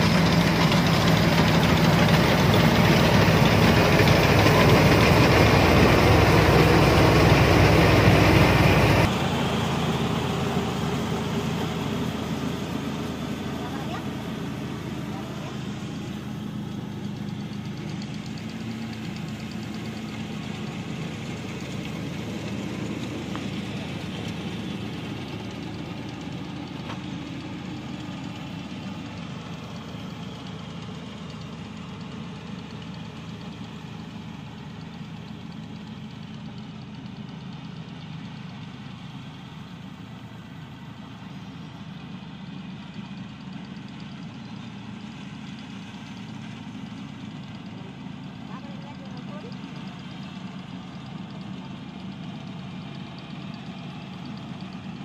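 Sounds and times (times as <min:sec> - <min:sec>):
combine harvester diesel engine running: 0:00.0 - 0:55.0.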